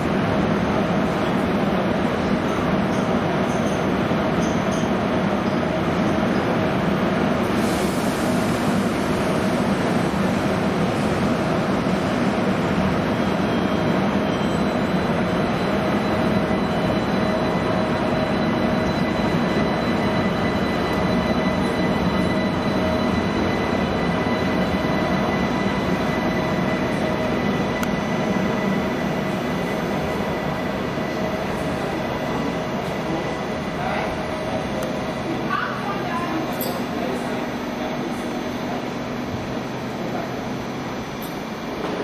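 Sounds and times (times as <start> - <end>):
train power car humming: 0.0 - 42.0.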